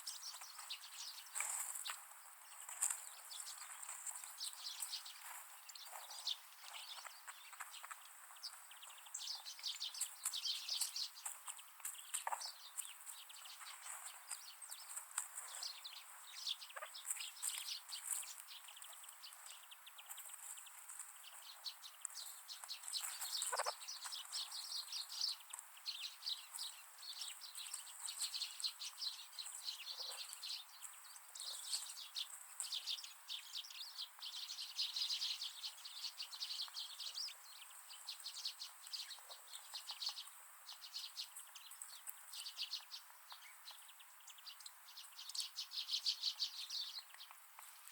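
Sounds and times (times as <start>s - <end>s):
wild birds chirping: 0.0s - 47.9s.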